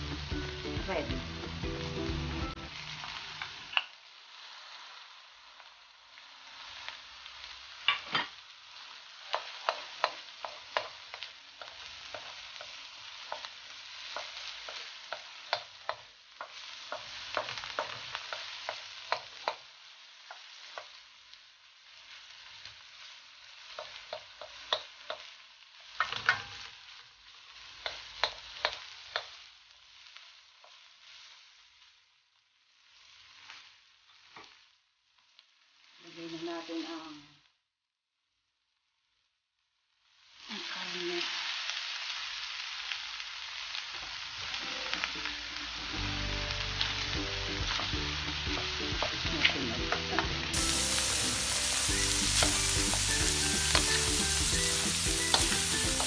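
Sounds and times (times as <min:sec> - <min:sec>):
food sizzling in oil: 0:00.0 - 0:37.6, 0:39.2 - 0:56.0
wooden spoon scraping wok: 0:02.5 - 0:21.2, 0:21.8 - 0:37.1, 0:40.6 - 0:56.0.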